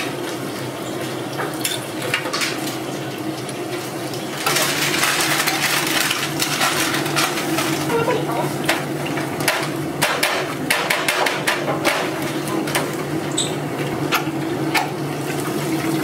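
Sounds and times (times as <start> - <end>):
hot oil sizzling and popping: 0.0 - 16.0.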